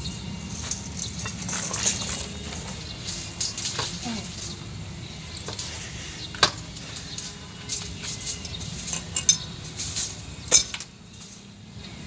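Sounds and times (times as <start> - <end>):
metal tools clinking and scraping: 0.0 - 11.6.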